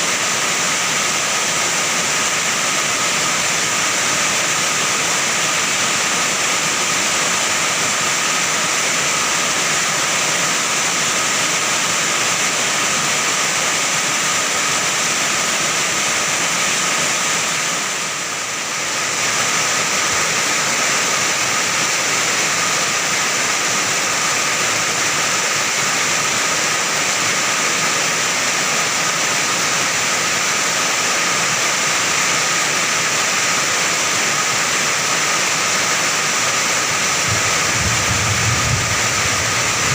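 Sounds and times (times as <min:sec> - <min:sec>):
heavy rain on an iron roof: 0:00.0 - 0:39.9.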